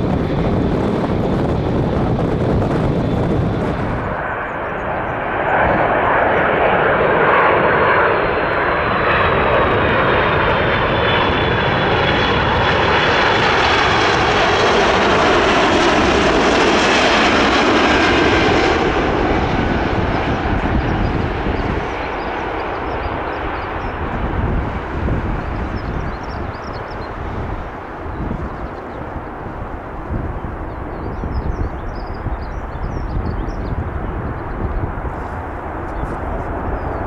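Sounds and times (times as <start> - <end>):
jet airliner engines whining: 0.0 - 37.0.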